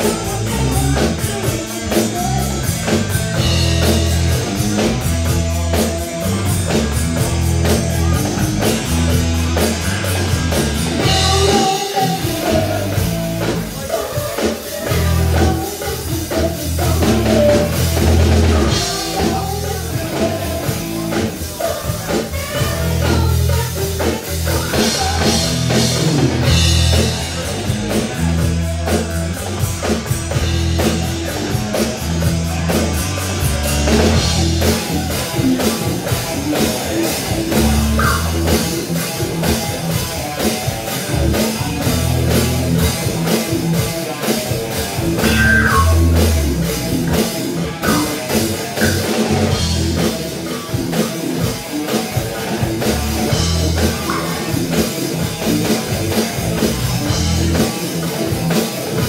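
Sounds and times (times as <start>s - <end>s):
bass guitar: 0.0s - 59.0s
drum kit steady beat: 0.0s - 59.0s
electric guitar: 0.0s - 59.0s.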